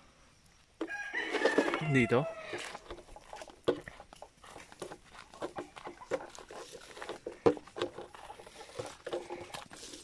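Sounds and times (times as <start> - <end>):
footsteps crunching dry leaves: 0.9 - 10.0.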